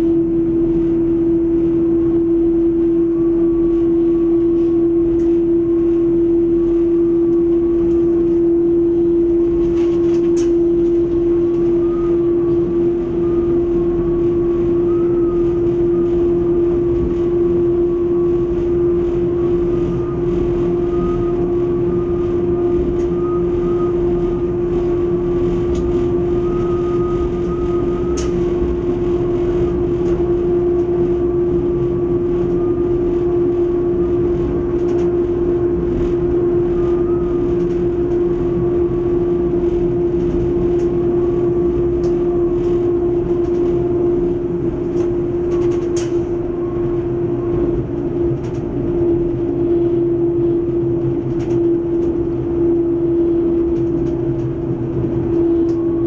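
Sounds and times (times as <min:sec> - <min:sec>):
diesel railcar drone: 0:00.0 - 0:56.0
steady whine: 0:00.0 - 0:56.0.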